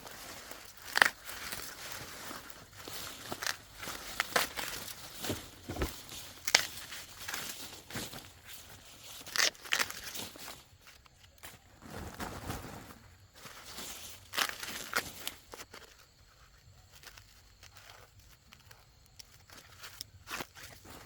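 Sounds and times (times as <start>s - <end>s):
rustling and crinkling handling: 0.0s - 21.0s.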